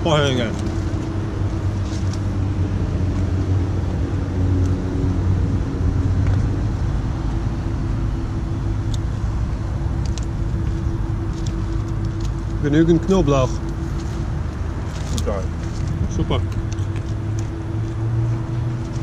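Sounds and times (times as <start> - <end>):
cooling fans humming: 0.0 - 19.0
low steady tones: 0.0 - 19.0.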